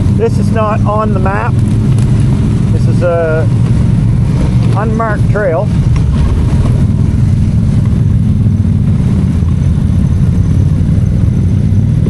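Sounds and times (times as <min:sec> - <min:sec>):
atv engine droning: 0:00.0 - 0:12.0.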